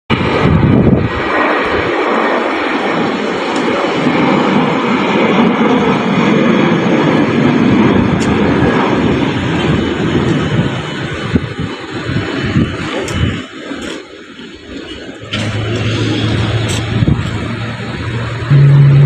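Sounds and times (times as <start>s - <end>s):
jet airliner flying past: 0.1s - 19.0s.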